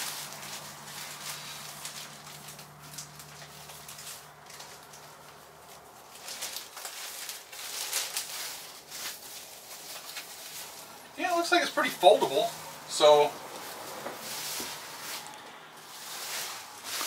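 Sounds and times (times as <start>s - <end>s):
foam feathers rustling: 0.0s - 17.0s
plastic sheeting crinkling: 0.0s - 17.0s.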